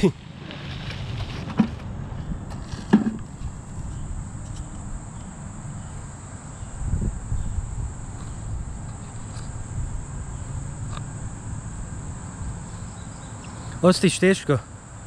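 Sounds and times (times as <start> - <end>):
high insect buzz: 0.0 - 15.0
low outdoor rumble: 0.0 - 15.0.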